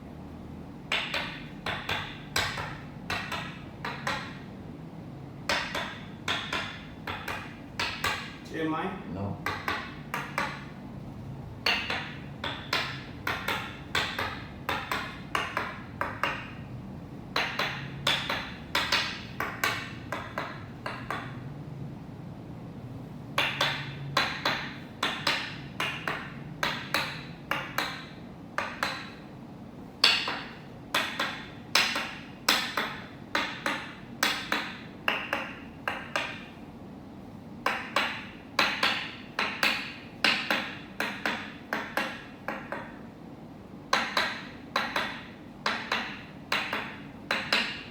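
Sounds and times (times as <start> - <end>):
wooden mallet tapping wooden stake: 0.9 - 4.5, 5.5 - 8.4, 9.4 - 10.8, 11.6 - 16.7, 17.3 - 21.4, 23.4 - 29.2, 30.0 - 36.5, 37.6 - 43.1, 43.9 - 47.9.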